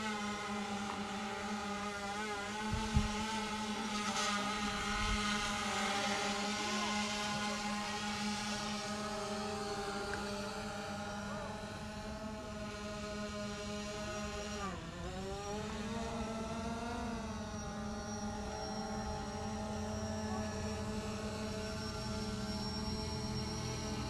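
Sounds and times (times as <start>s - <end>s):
engine-like drone: 0.0s - 24.0s.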